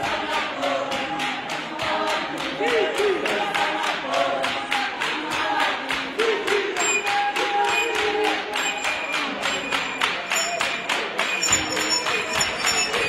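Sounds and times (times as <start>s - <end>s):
group singing: 0.0s - 13.0s
hand clapping: 0.0s - 13.0s.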